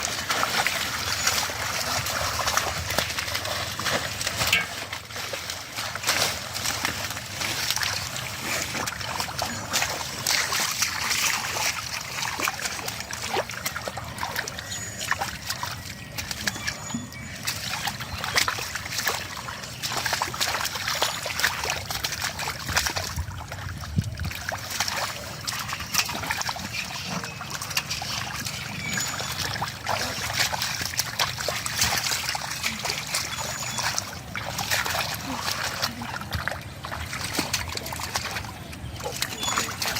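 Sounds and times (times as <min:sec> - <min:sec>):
muddy water splashing and sloshing: 0:00.0 - 0:39.9.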